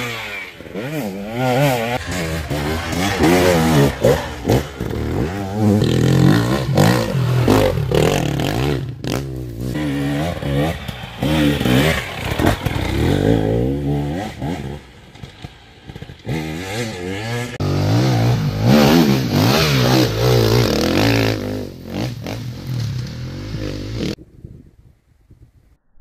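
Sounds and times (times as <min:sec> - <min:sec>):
dirt bike engines revving: 0:00.0 - 0:24.2.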